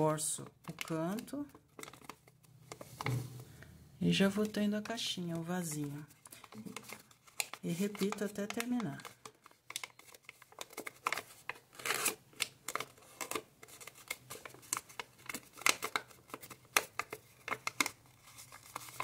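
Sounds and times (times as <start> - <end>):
paper being folded and crackling: 0.2 - 3.2, 4.1 - 19.0.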